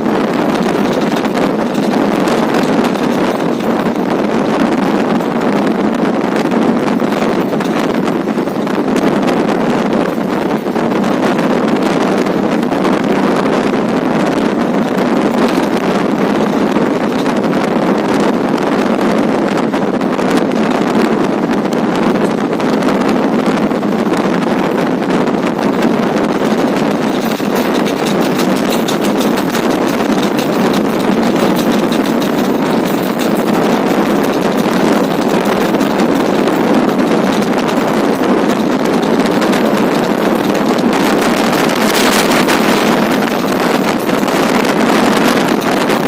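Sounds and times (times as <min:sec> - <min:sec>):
train running noise: 0:00.0 - 0:46.0
wind buffeting microphone: 0:00.0 - 0:46.0
wind rushing: 0:00.0 - 0:46.0.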